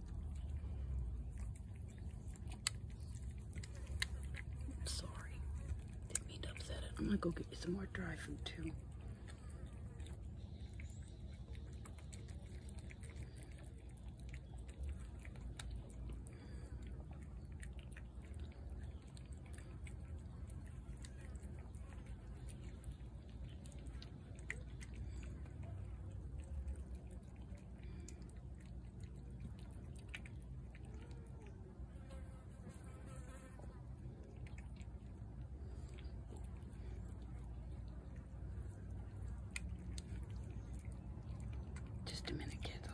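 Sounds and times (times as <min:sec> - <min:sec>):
cat chewing: 0:00.0 - 0:32.4, 0:33.1 - 0:42.9
low steady rumble: 0:00.0 - 0:42.9.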